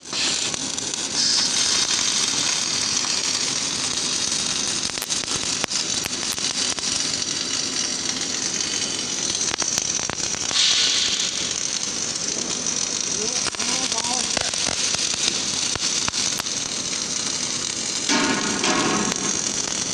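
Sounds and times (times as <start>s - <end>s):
welding arc crackling and hissing: 0.0s - 19.9s
welding arc sharp pops: 0.0s - 19.9s.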